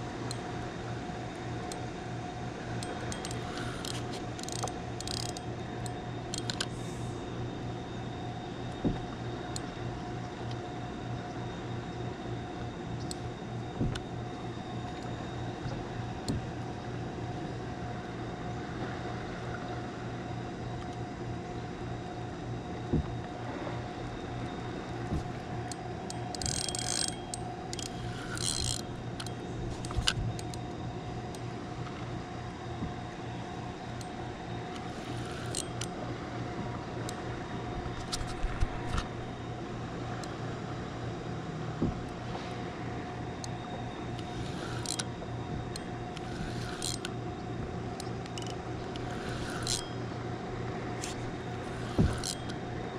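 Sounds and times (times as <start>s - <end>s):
fishing reel gear whirr: 0.1s - 18.0s, 22.6s - 41.0s, 42.0s - 52.9s.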